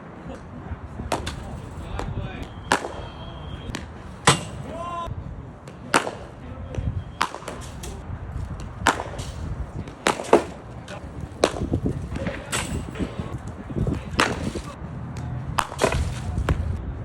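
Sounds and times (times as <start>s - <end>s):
cricket bat striking ball: 1.0s - 5.0s, 5.6s - 16.8s.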